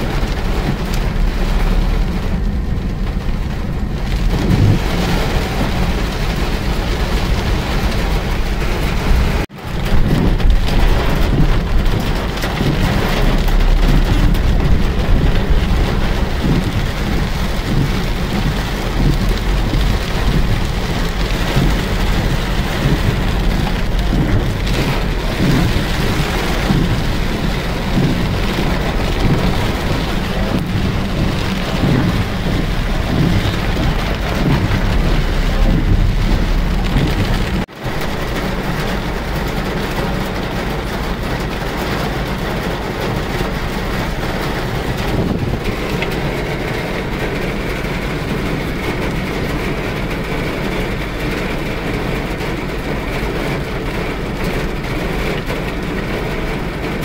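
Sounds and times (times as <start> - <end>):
heavy rain on vehicle roof: 0.0 - 57.0
steady low rumble: 0.0 - 57.0.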